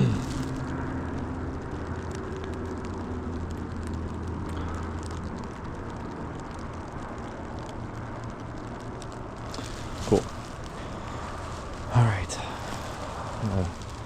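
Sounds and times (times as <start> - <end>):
low steady rumble: 0.0 - 14.0
rain ticking on a poncho: 0.0 - 14.0.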